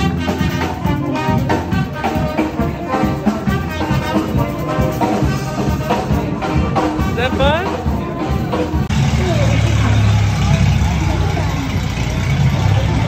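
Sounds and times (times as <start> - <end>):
brass band playing: 0.0 - 13.0
steady drum beat: 0.0 - 13.0.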